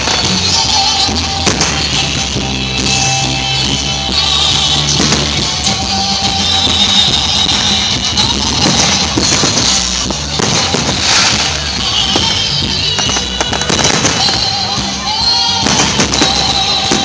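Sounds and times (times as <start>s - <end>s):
person singing: 0.0s - 17.0s
rock music: 0.0s - 17.0s.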